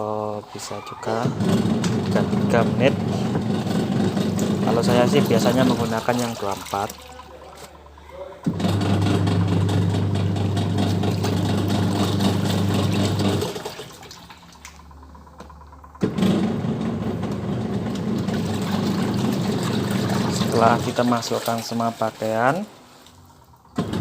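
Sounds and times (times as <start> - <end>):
washing machine motor and churning water: 0.0 - 24.0.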